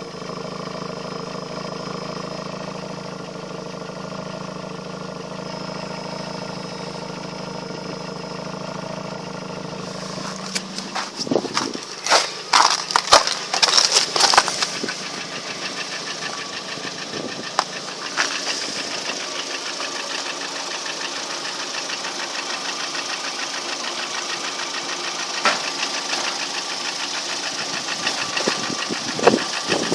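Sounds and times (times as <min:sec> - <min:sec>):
car engine idling with ticking knock: 0:00.0 - 0:29.9.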